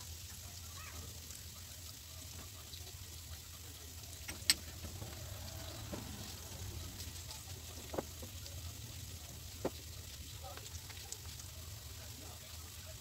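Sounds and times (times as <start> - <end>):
onions sizzling in oil: 0.0 - 13.0
oil popping: 1.3 - 13.0.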